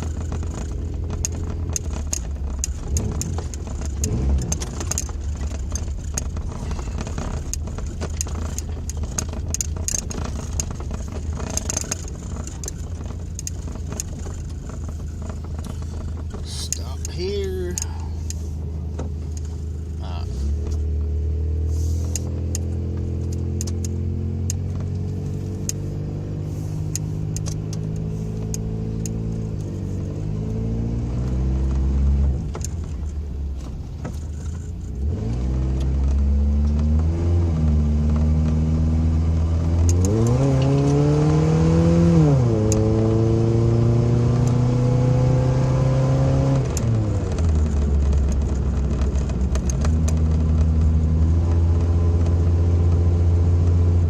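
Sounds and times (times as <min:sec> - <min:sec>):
truck engine accelerating: 0:00.0 - 0:54.0.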